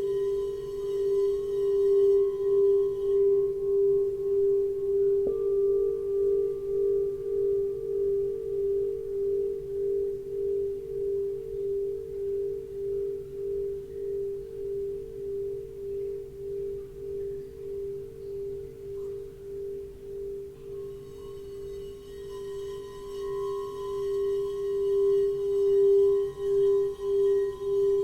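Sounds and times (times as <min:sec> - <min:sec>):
higher-pitched singing bowl struck: 0:00.0 - 0:28.0
singing bowl ringing low: 0:00.0 - 0:28.0.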